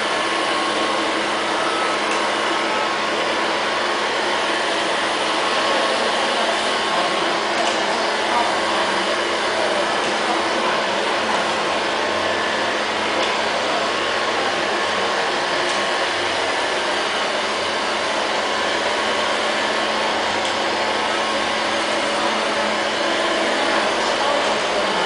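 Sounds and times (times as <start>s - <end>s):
robot vacuum cleaner whirring: 0.0s - 25.0s.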